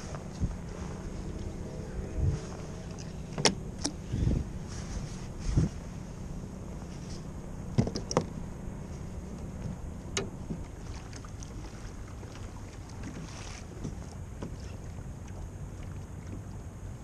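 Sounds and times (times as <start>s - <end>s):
water lapping around kayak: 0.0s - 17.0s
wind: 0.0s - 17.0s.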